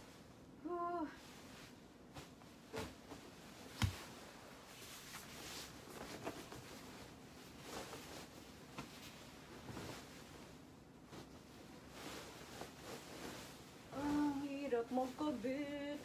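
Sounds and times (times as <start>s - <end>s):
duvet rustling: 0.0s - 16.0s.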